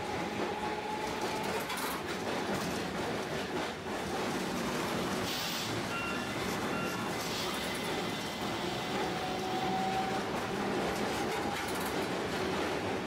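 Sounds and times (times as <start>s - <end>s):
streetcar wheels on rails: 0.0s - 13.0s.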